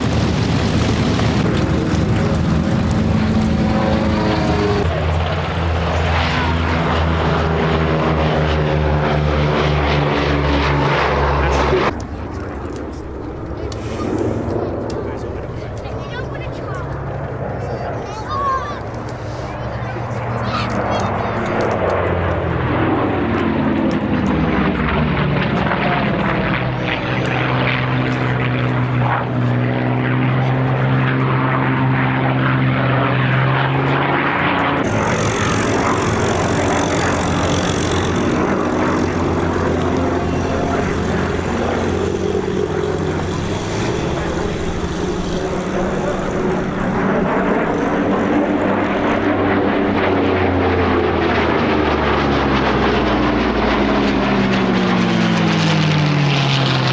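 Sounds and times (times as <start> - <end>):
propeller aircraft engines flying past: 0.0 - 56.9.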